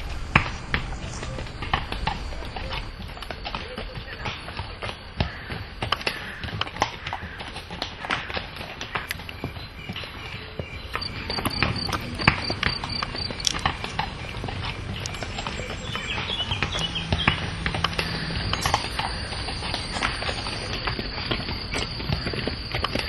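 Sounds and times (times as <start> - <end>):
horse hooves clopping: 0.0 - 23.0.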